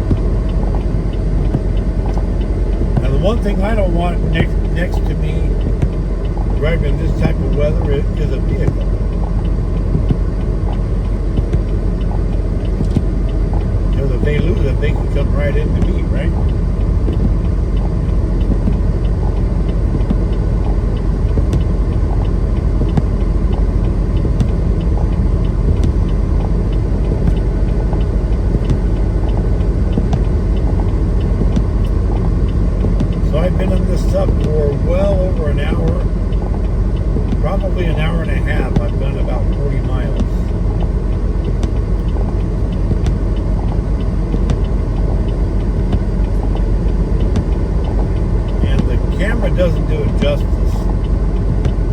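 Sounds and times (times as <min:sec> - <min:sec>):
faint light ticks: 0:00.0 - 0:51.9
truck engine and road rumble: 0:00.0 - 0:51.9.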